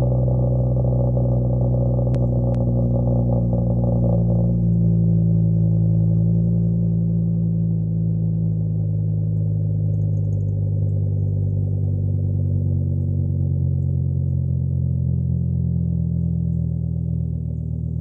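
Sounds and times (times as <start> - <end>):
car exhaust idling drone: 0.0 - 18.0.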